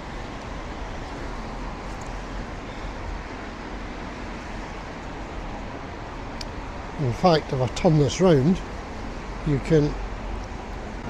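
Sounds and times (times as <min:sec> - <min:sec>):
distant road traffic: 0:00.0 - 0:11.0.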